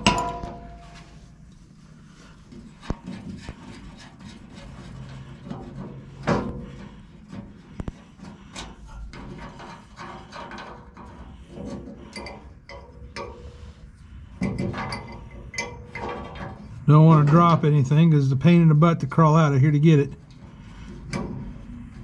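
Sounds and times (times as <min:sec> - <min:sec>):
metal scraping: 0:00.0 - 0:22.0.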